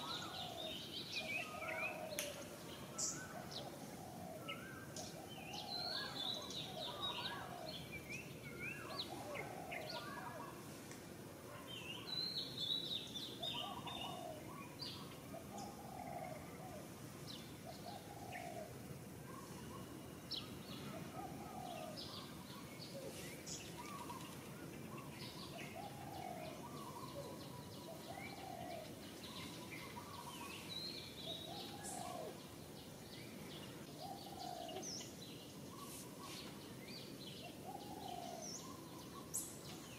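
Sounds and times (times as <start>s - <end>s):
birds chirping and twittering: 0.0s - 39.9s
steady background hiss: 0.0s - 39.9s.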